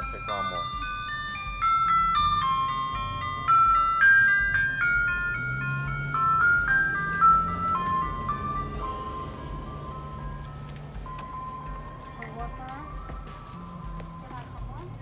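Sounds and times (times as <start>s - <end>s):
ice cream truck chime tune: 0.0s - 15.0s.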